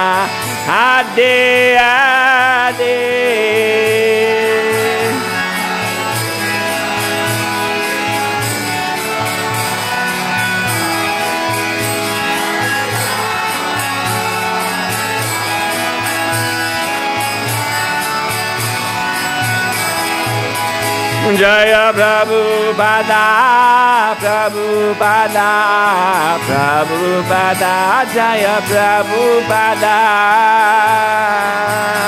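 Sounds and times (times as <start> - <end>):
harmonium droning melody: 0.0 - 32.0
rhythmic percussion beat: 0.0 - 32.0.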